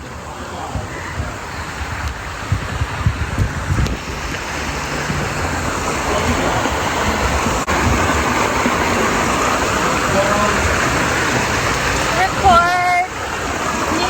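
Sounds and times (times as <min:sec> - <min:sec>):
rumbling bumps on microphone: 0:00.0 - 0:12.1
water rushing: 0:00.0 - 0:14.0.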